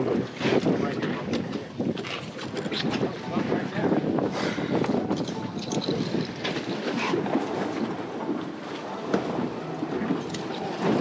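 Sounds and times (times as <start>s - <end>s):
boat rushing through water: 0.0s - 11.0s
wind buffeting microphone: 0.0s - 11.0s.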